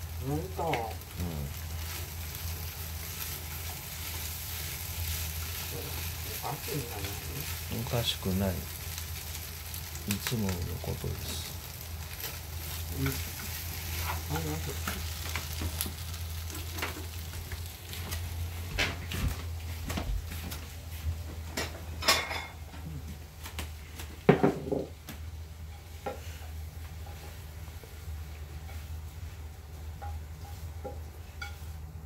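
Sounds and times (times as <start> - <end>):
vegetables sizzling in oil: 0.0 - 21.0, 24.2 - 32.0.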